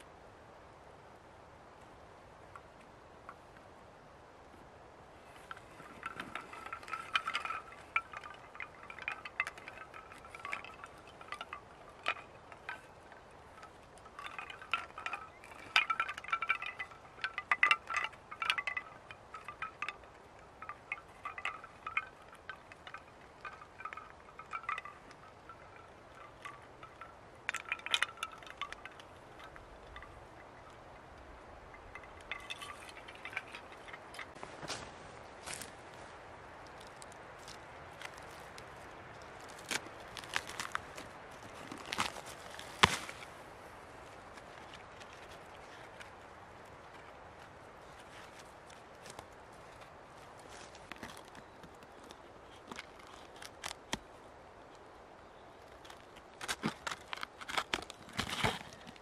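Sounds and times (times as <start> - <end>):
bamboo wind chimes knocking: 5.2 - 59.0.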